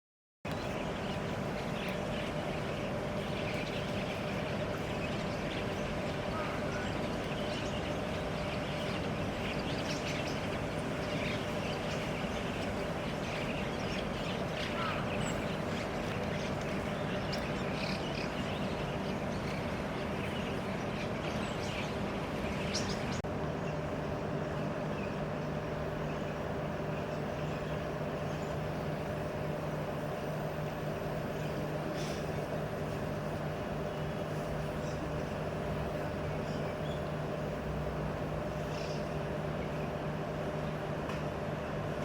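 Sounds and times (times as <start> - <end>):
deeper steady hum: 0.5 - 42.0
faint hum: 0.5 - 42.0.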